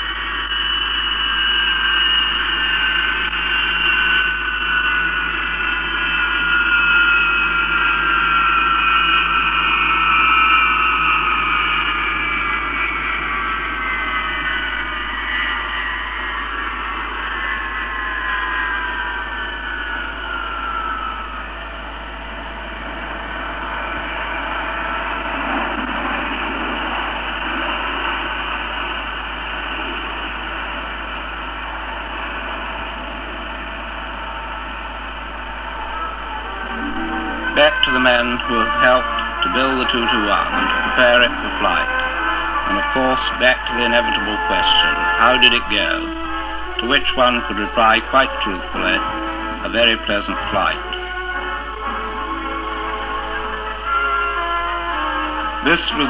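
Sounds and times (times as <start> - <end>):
jet engine whine running down: 0.0 - 56.0
steady hiss: 0.0 - 56.0.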